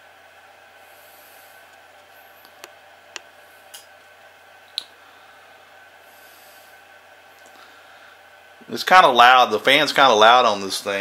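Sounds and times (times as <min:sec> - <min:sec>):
cooling fan whirring: 0:00.0 - 0:11.0.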